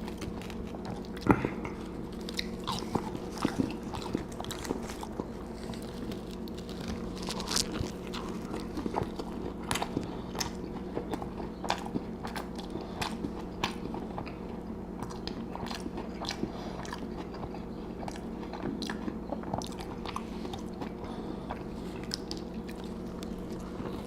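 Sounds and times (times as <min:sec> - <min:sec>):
chewing food crunches: 0:00.0 - 0:24.0
steady low hum: 0:00.0 - 0:24.0.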